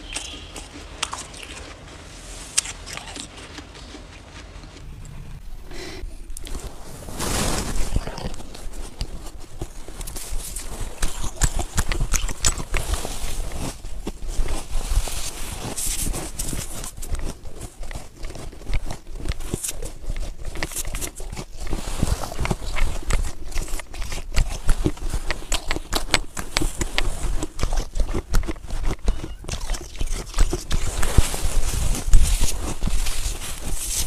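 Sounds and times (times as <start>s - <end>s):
snow being bitten and chewed: 0.0s - 34.0s.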